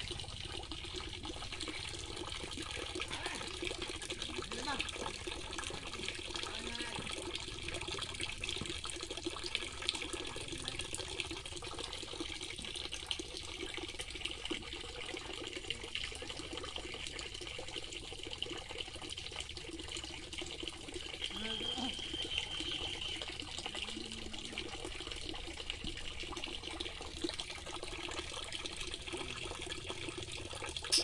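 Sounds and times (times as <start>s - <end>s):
water pouring from pipe into pond: 0.0s - 31.0s.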